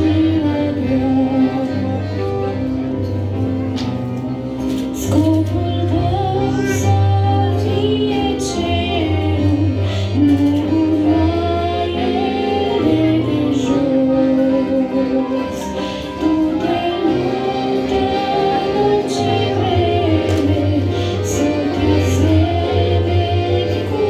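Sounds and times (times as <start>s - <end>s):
woman singing into microphone: 0.0s - 2.2s, 5.0s - 24.0s
instrumental accompaniment: 0.0s - 24.0s.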